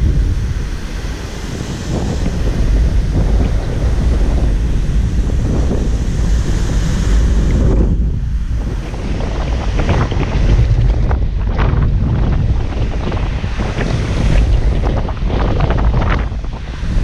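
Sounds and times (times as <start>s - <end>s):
ocean surf breaking: 0.0s - 17.0s
wind buffeting the microphone: 0.0s - 17.0s.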